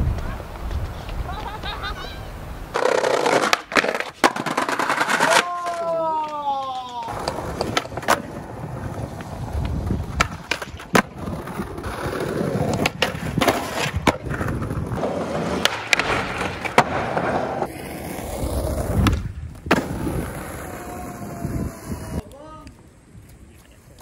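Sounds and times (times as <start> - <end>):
skateboard scraping on concrete: 0.0 - 22.3
skateboard wheels rolling on paving: 0.0 - 24.0
skateboard popping and landing: 2.7 - 22.2.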